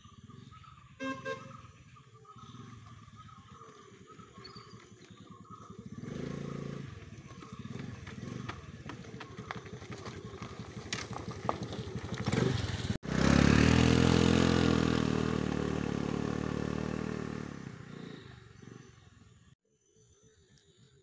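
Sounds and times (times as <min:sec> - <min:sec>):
scooter engine riding away: 0:00.0 - 0:19.6
scooter rattling over rough ground: 0:02.4 - 0:19.2.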